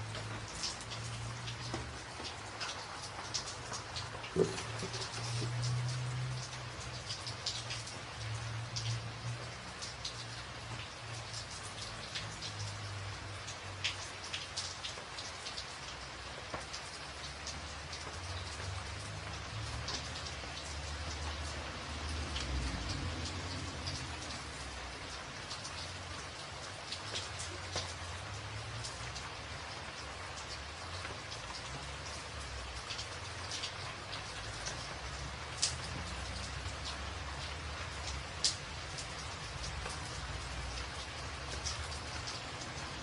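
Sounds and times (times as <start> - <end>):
rain on a tin roof: 0.0 - 43.0.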